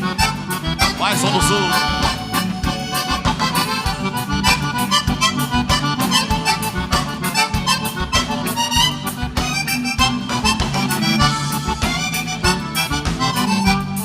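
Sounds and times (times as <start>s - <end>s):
accordion: 0.0s - 14.0s
bass: 0.0s - 14.0s
steady drum beat: 0.8s - 13.5s.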